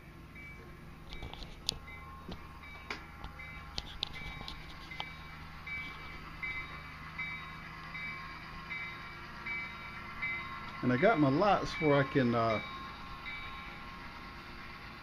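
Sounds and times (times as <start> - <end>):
low engine hum: 0.0 - 15.0
bell-like ding: 0.4 - 13.9.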